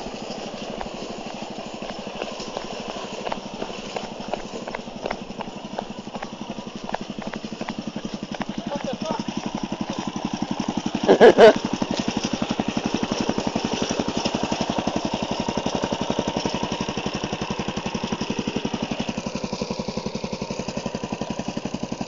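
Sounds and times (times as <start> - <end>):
loud engine bursts: 0.0 - 22.0
small go-kart engine running: 0.0 - 22.0.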